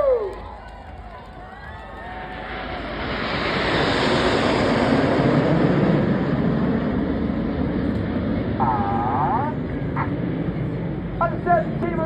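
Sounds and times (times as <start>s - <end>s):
jets roaring overhead: 0.0s - 12.0s.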